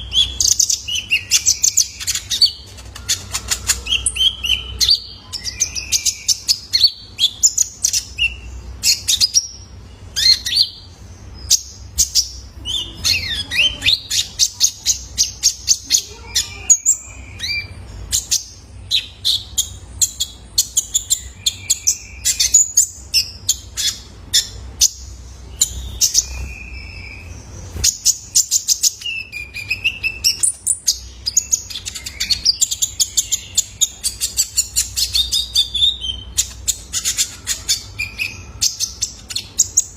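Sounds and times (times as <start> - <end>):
bird singing high chips: 0.0 - 39.9
steady low hum: 0.0 - 39.9.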